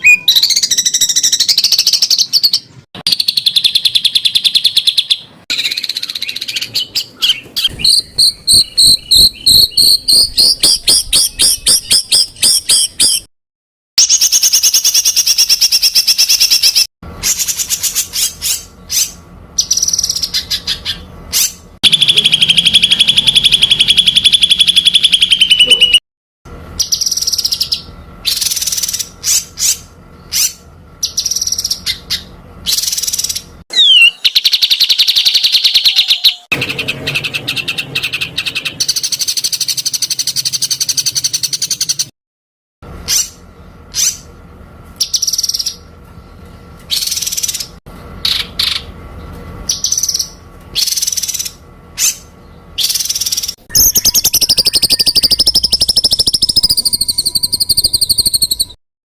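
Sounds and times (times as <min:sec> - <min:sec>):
songbirds singing rapid trills: 0:00.0 - 0:13.3, 0:14.0 - 0:26.0, 0:26.8 - 0:42.1, 0:43.0 - 0:44.4, 0:45.0 - 0:58.8.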